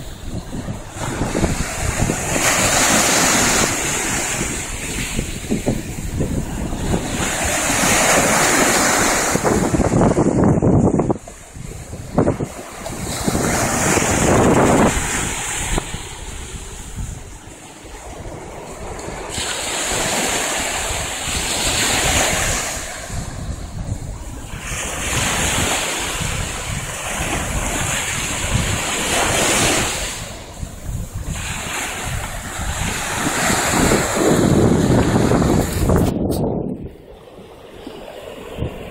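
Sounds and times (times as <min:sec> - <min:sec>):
small surf washing up sand: 0:00.0 - 0:10.5, 0:11.1 - 0:36.2
wind buffeting microphone: 0:00.0 - 0:38.9.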